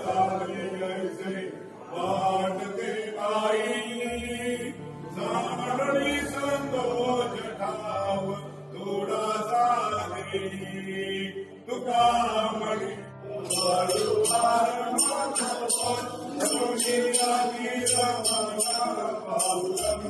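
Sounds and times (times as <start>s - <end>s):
devotional hymn chanted: 0.0s - 20.0s.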